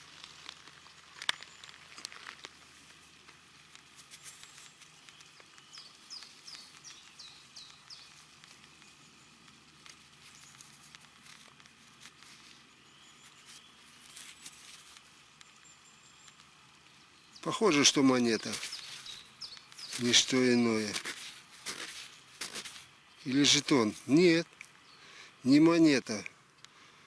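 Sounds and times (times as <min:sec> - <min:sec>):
light clicks and rustles: 0:00.0 - 0:16.6, 0:18.2 - 0:24.8
small bird singing: 0:04.2 - 0:26.2.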